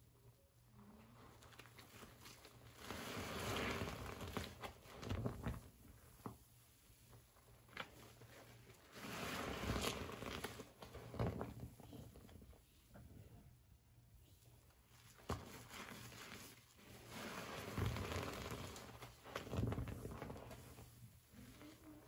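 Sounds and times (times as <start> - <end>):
rustling and handling noises: 0.8 - 13.2, 14.2 - 22.0.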